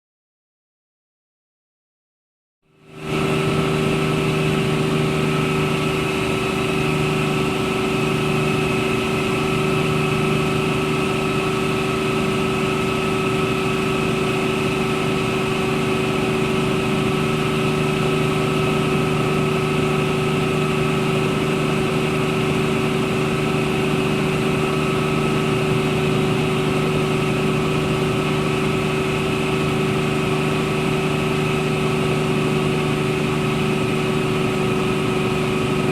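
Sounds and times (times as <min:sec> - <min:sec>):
helicopter engine and rotor drone: 0:02.7 - 0:35.9
turbine whine: 0:02.7 - 0:35.9.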